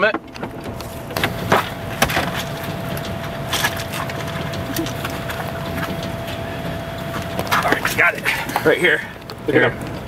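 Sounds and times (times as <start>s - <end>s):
vehicle door clunking open: 0.0s - 10.0s
steady noisy rush: 0.2s - 10.0s.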